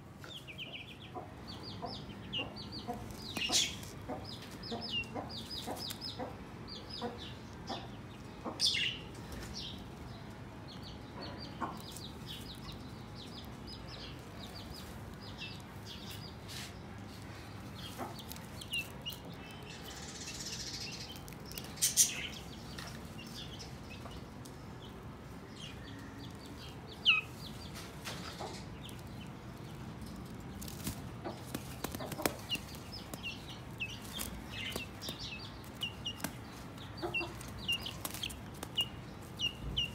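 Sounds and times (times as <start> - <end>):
chicks peeping: 0.2 - 39.9.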